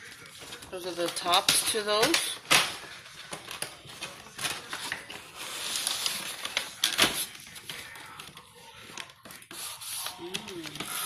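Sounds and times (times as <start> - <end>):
plastic bag and cardboard rustling: 0.0 - 11.0.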